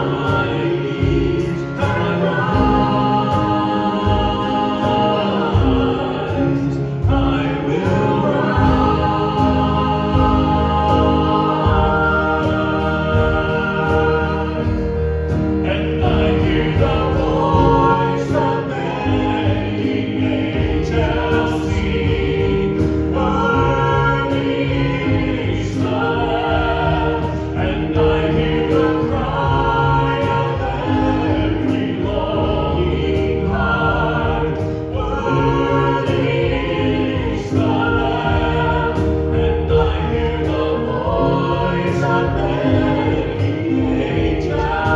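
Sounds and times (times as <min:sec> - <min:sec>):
group singing a hymn: 0:00.0 - 0:44.9
instrumental accompaniment: 0:00.0 - 0:44.9.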